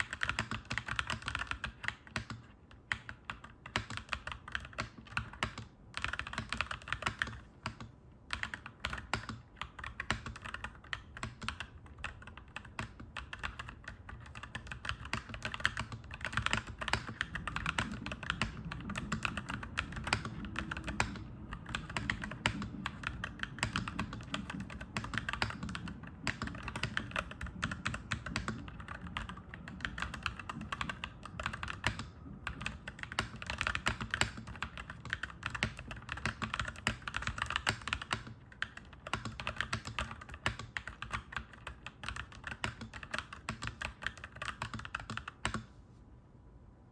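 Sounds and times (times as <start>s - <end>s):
mechanical keyboard typing: 0.0s - 45.7s.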